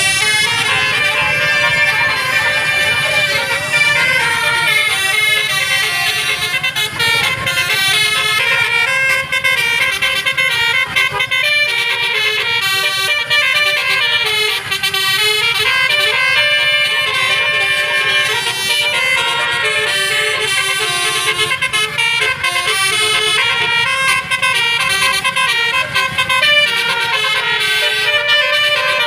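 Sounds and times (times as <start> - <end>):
low engine rumble: 0.0 - 29.0
tuned bus horns playing melody: 0.0 - 29.0.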